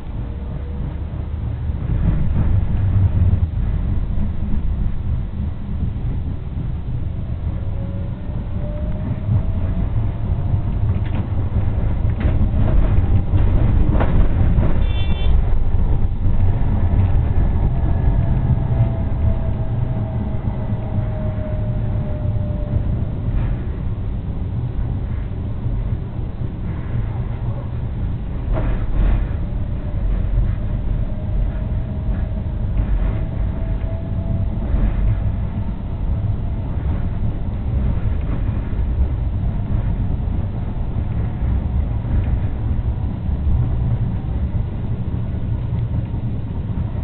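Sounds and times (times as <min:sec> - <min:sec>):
tram low rumble: 0:00.0 - 0:47.0.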